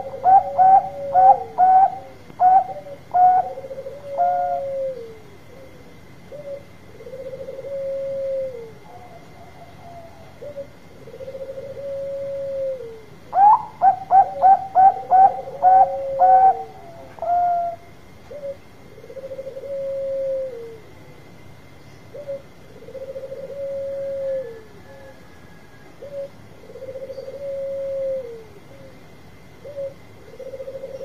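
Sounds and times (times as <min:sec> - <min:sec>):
dove cooing: 0:00.0 - 0:21.0, 0:22.1 - 0:31.0.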